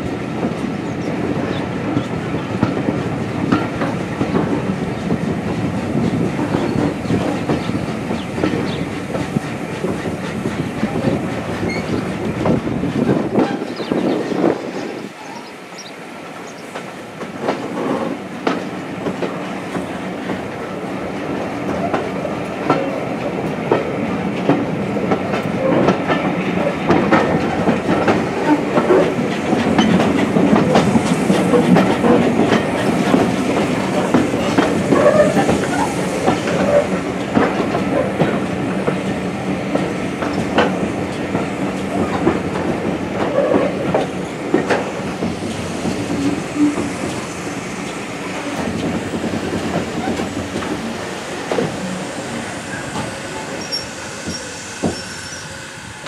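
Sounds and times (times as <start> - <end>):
train wheels clicking and clattering: 0.0 - 56.0.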